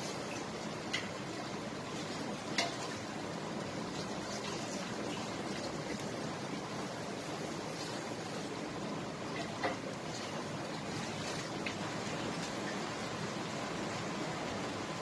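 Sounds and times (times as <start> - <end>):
meat simmering in frying pan: 0.0 - 15.0.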